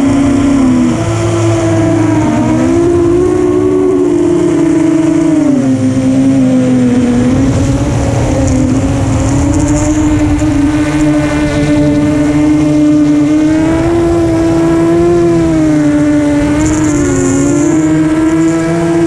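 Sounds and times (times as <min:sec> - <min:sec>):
quadcopter propellers whining: 0:00.0 - 0:19.0.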